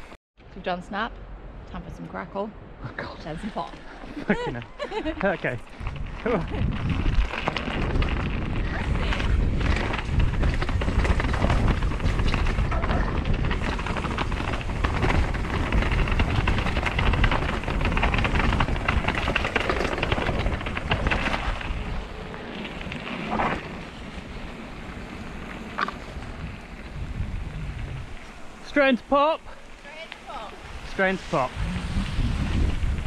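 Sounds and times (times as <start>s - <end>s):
wind buffeting microphone: 1.3s - 33.0s
bike tyres rattling over rock: 4.2s - 33.0s.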